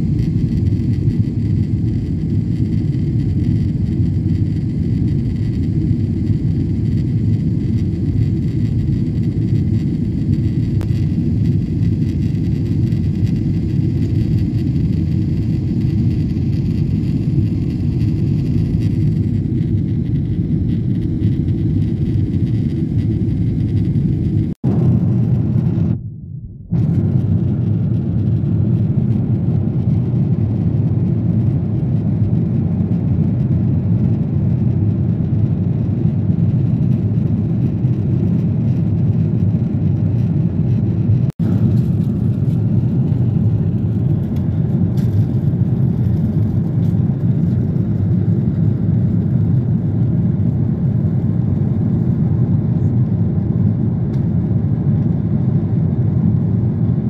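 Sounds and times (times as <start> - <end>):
jet engine rumble in cabin: 0.0 - 57.0.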